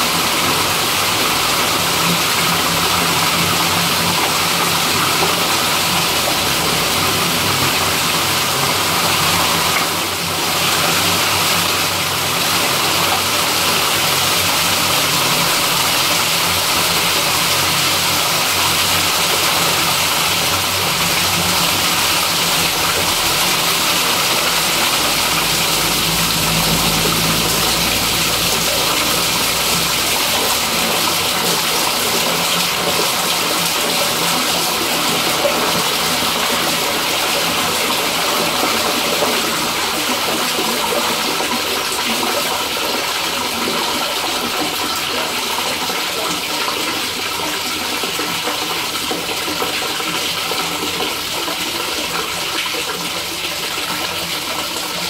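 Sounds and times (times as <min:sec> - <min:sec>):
waste water pouring from pipe: 0:00.0 - 0:55.0.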